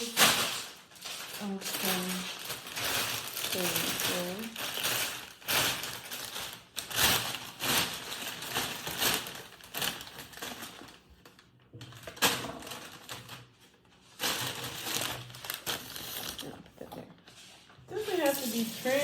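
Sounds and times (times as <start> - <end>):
crinkling and rustling handling: 0.0 - 19.0.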